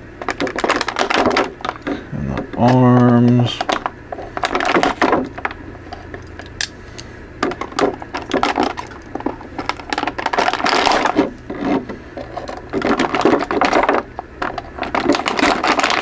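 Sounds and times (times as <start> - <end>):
plastic packaging crinkling: 0.2 - 6.3, 7.4 - 16.0.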